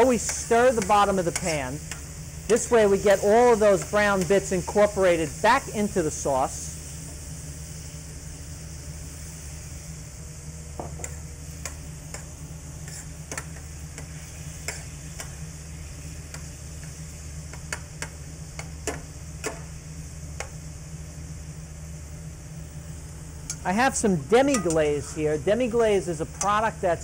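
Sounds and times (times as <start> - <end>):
vinegar sizzling in pan: 0.0 - 27.0.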